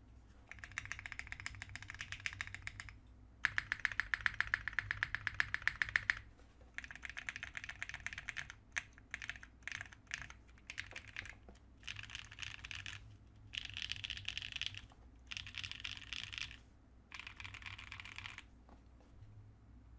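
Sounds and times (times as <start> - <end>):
typing on mechanical keyboard: 0.5 - 18.5.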